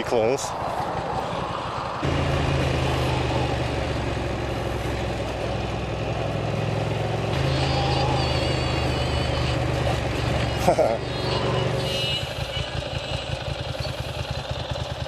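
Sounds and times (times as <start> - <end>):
motorcycle engine running: 1.4 - 15.0.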